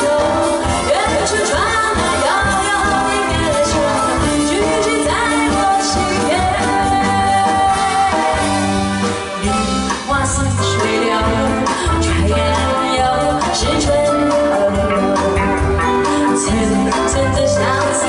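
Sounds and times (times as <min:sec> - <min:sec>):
live band playing: 0:00.0 - 0:18.0
woman singing into a microphone: 0:00.0 - 0:18.0.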